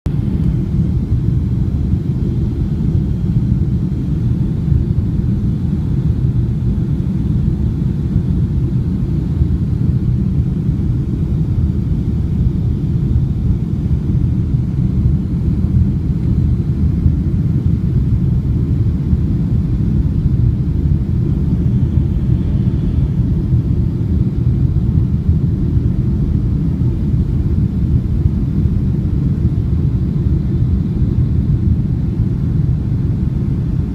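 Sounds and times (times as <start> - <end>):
aircraft engines and airflow rumble: 0.0 - 33.9.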